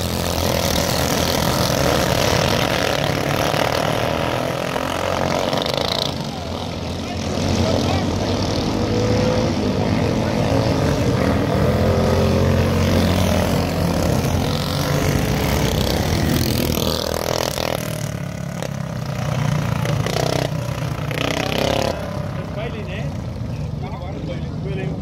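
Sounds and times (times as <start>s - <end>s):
kart engines revving high: 0.0s - 25.0s.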